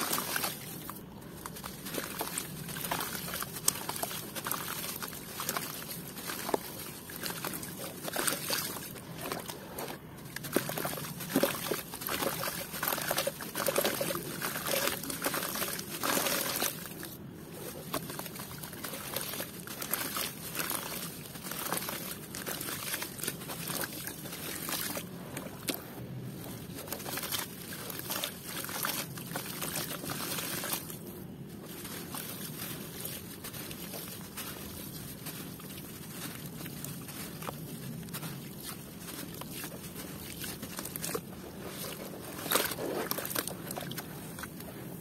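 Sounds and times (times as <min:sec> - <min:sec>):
water sloshing and trickling: 0:00.0 - 0:45.0
wet dirt crumbling: 0:00.0 - 0:45.0.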